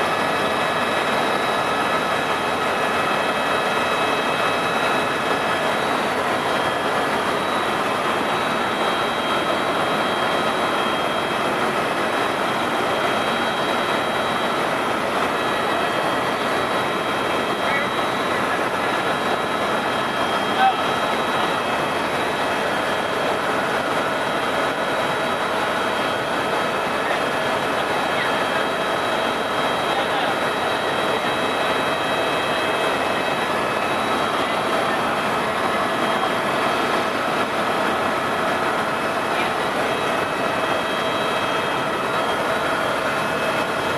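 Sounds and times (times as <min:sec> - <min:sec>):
helicopter cabin noise: 0:00.0 - 0:43.9.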